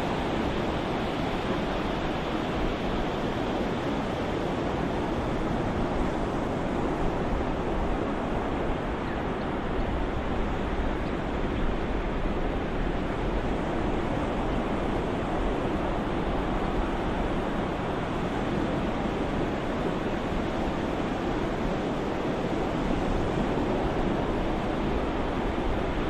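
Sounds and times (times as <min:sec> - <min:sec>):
ocean surf waves: 0:00.0 - 0:26.0.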